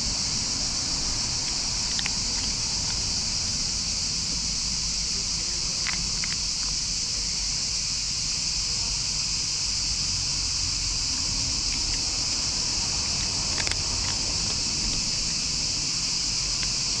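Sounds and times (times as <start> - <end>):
cat chewing dry kibble: 0.0 - 7.4, 10.6 - 17.0
insect chorus: 0.0 - 17.0.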